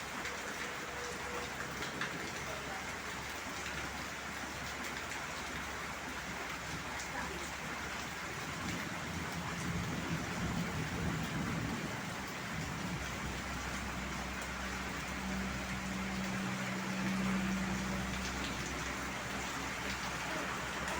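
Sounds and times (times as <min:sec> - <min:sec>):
heavy rain hissing: 0:00.0 - 0:20.9.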